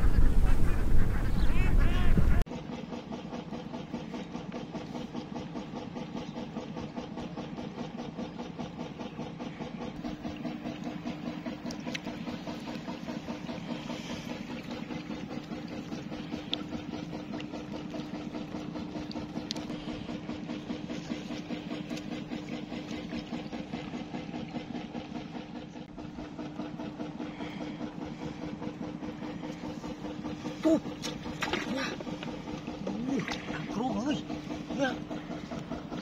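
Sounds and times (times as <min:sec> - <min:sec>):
small engine idling: 0:00.0 - 0:36.0.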